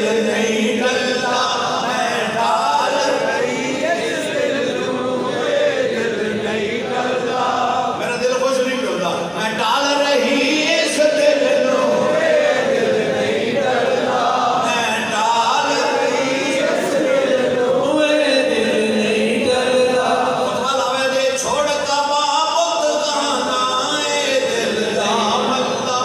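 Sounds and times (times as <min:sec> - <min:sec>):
men chanting together: 0:00.0 - 0:08.0, 0:09.6 - 0:21.6, 0:22.8 - 0:26.0.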